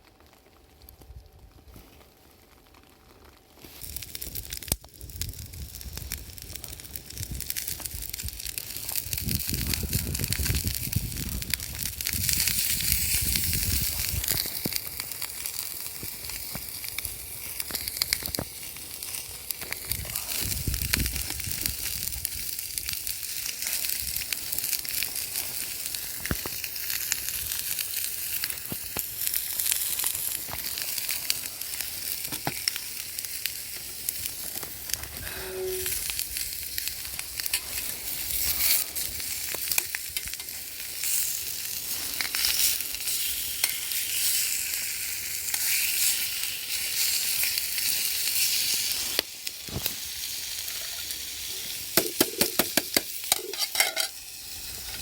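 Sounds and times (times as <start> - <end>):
food sizzling in a pan: 3.6 - 55.0.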